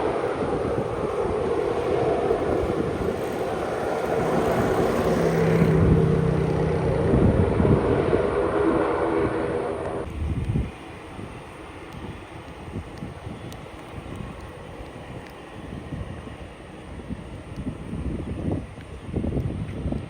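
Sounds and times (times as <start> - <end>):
aircraft engines droning: 0.0 - 20.0.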